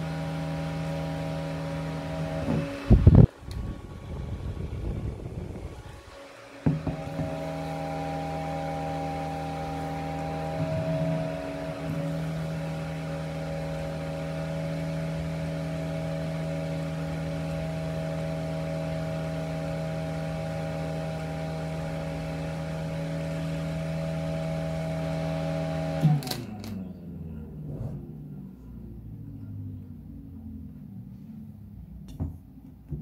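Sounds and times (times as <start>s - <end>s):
fan humming with whine: 0.0s - 33.0s.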